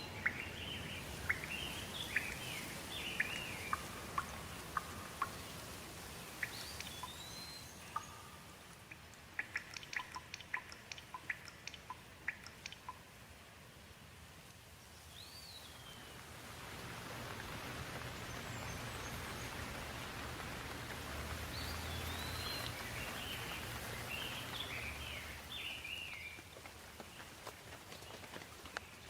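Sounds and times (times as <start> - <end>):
birds calling: 0.0 - 13.0, 17.5 - 29.0
steady rain falling: 0.0 - 29.0.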